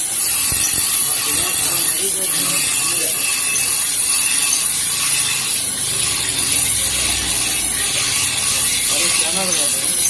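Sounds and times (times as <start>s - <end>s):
scissors scraping on grinding stone: 0.0s - 10.0s.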